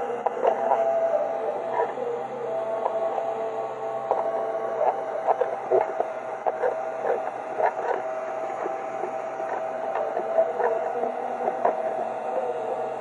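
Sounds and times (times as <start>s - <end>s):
small motor humming: 0.0s - 13.0s.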